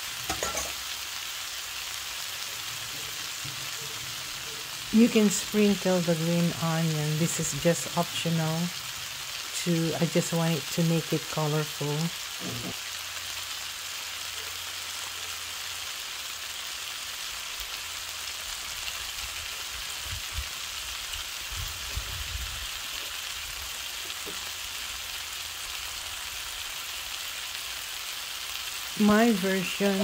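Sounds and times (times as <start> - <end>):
food sizzling in a skillet: 0.0 - 30.0.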